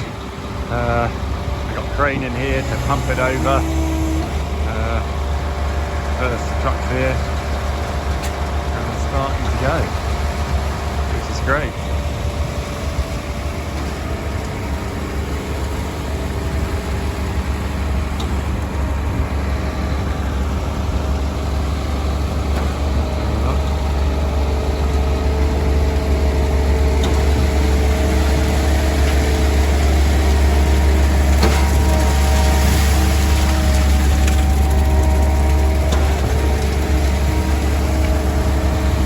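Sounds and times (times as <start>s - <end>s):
diesel engine humming: 0.0s - 39.0s.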